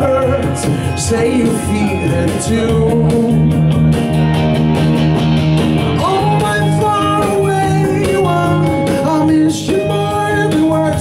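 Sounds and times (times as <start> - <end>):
bass: 0.0 - 11.0
drum machine beat: 0.0 - 11.0.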